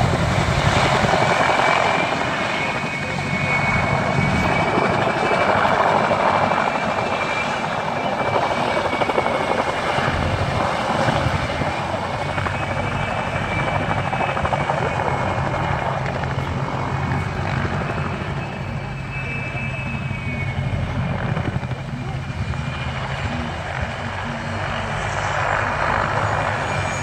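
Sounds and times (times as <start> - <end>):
helicopter rotor and engine roar: 0.0 - 27.0
high whine: 0.0 - 27.0.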